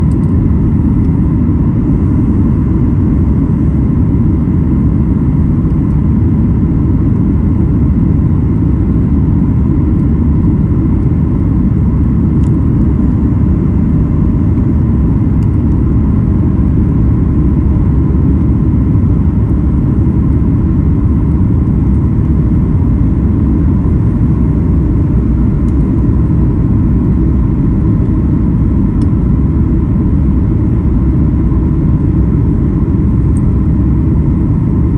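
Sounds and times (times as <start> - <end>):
faint steady hum: 0.0 - 34.9
jet engine rumble in cabin: 0.0 - 34.9.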